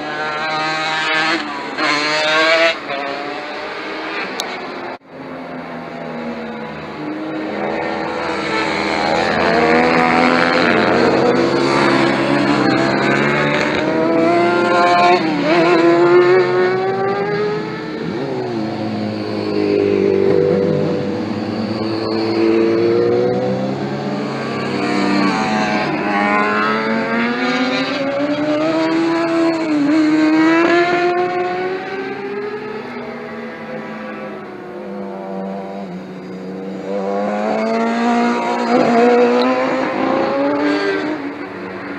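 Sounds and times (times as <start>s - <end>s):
sportbike engines passing at high revs: 0.0s - 5.0s, 6.0s - 41.9s.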